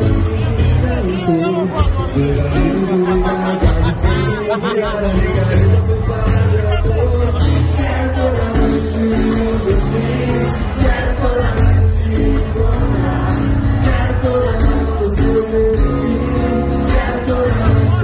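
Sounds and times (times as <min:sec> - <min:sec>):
acoustic guitar: 0:00.0 - 0:18.0
bass and beat: 0:00.0 - 0:18.0
man singing pop ballad: 0:00.0 - 0:18.0.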